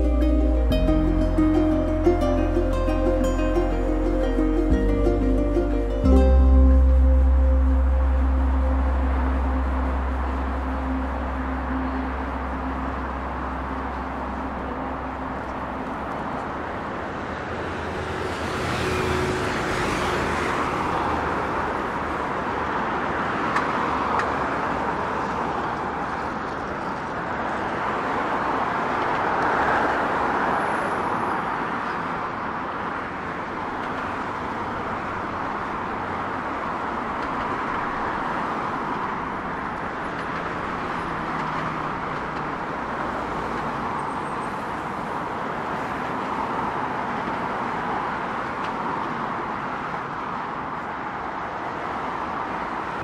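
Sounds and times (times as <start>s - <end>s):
road traffic: 0.0s - 53.0s
vehicles passing close by: 0.0s - 53.0s.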